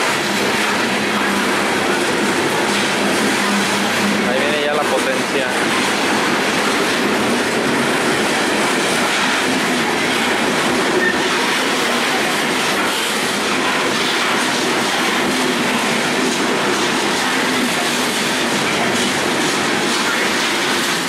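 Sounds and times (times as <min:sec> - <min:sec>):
freight train wheels clattering: 0:00.0 - 0:21.0.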